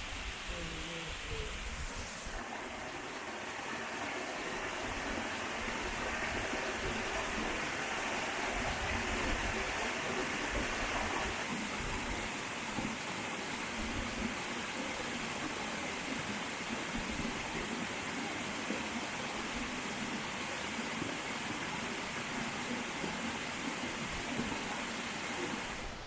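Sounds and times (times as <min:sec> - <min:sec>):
water rushing over boulders: 0:00.0 - 0:26.0.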